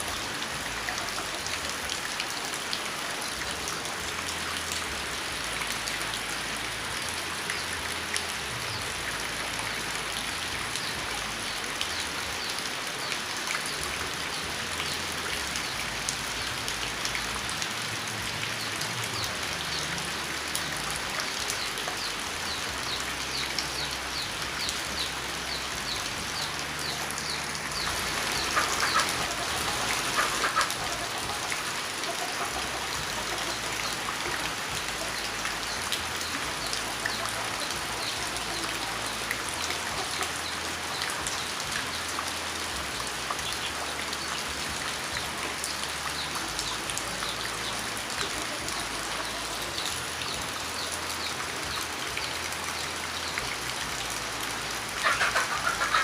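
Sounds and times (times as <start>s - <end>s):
rain falling: 0.0s - 56.0s
raindrops ticking on surfaces: 0.0s - 56.0s.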